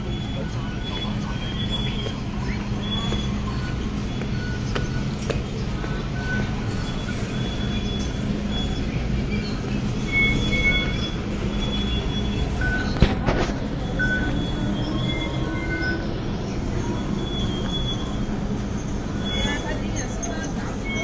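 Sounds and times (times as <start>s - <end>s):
high-pitched whining tones: 0.0s - 21.0s
train car running: 0.0s - 21.0s.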